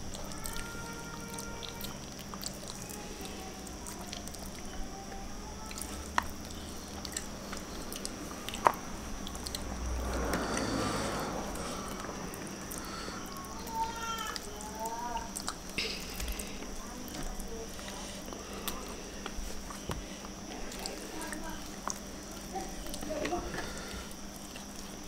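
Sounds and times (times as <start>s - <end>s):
chewing: 0.0s - 13.6s, 14.2s - 25.0s.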